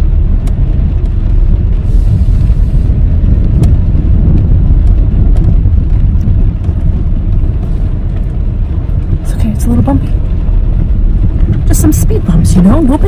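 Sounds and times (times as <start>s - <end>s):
vehicle rumbling over bumpy surface: 0.0s - 13.0s.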